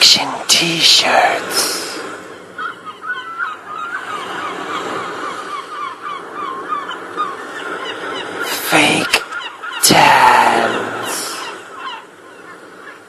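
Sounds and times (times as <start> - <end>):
flock of birds calling: 2.2 - 13.0.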